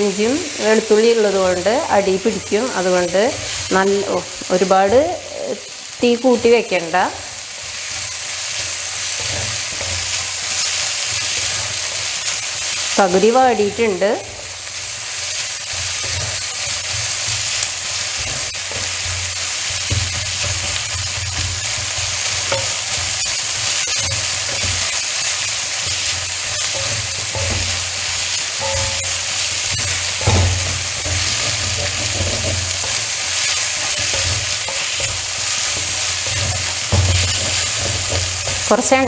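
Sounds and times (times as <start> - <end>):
spatula scraping a pan: 0.0 - 5.9, 7.4 - 13.0, 14.2 - 38.9
vegetables sizzling in oil: 0.0 - 39.0.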